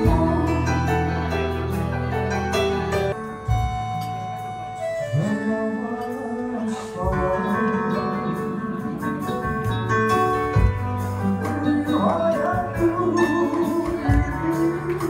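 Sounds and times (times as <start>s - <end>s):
keyboard: 0.0s - 15.0s
live pop band playing: 0.0s - 15.0s.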